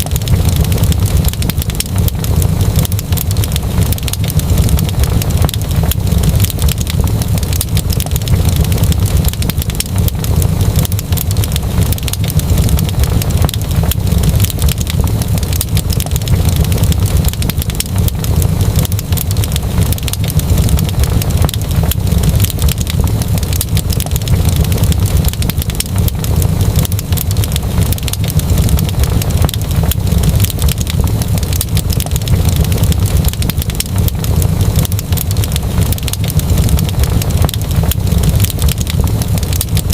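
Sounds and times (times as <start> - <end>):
fire crackling and popping: 0.0 - 39.9
low rumble: 0.0 - 39.9.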